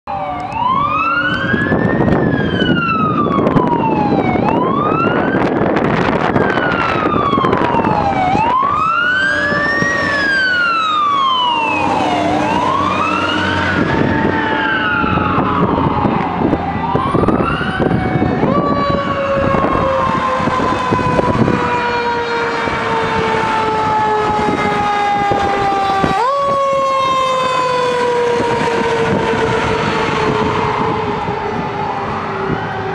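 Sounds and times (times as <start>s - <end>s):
fire truck siren wailing: 0.0s - 32.9s
truck engine and road noise: 0.1s - 32.9s.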